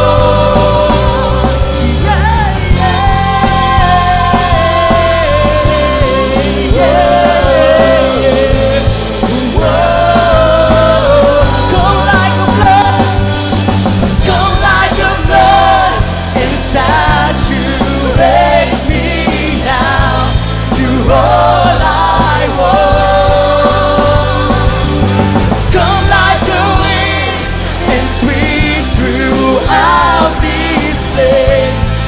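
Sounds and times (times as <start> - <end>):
drums: 0.0 - 32.0
people singing into microphones: 0.0 - 32.0
worship band playing: 0.0 - 32.0.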